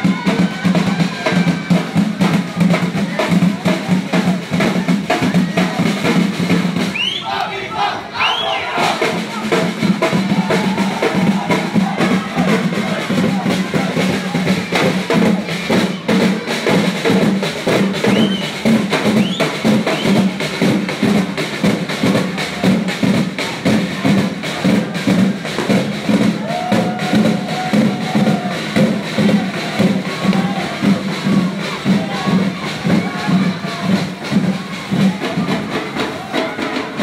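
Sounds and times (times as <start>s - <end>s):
voices shouting: 0.0s - 20.5s, 26.0s - 37.0s
festival music with fast drumbeat: 0.0s - 37.0s.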